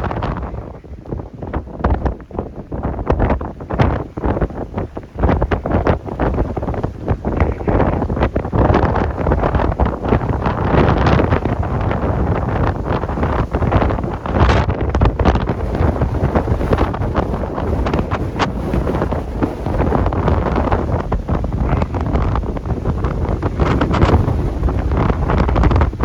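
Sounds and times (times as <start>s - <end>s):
gusty wind buffeting microphone: 0.0s - 26.0s.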